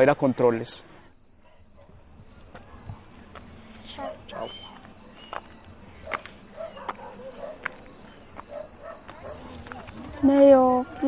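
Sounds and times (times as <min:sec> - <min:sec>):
night insects chirping: 0:00.0 - 0:11.0.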